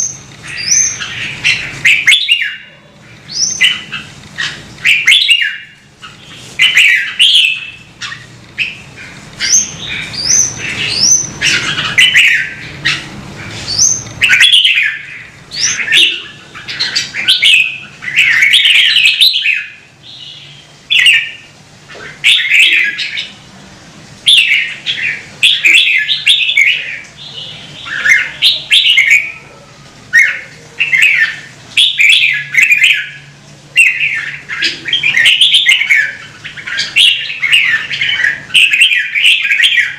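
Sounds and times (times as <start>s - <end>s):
bird singing warbled phrases: 0.0s - 23.5s, 24.2s - 39.9s.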